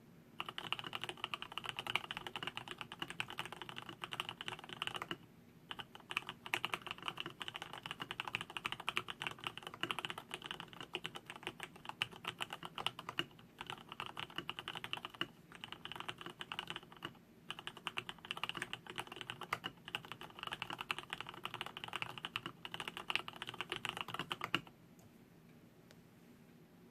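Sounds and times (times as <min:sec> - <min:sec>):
mechanical keyboard typing: 0:00.4 - 0:24.7.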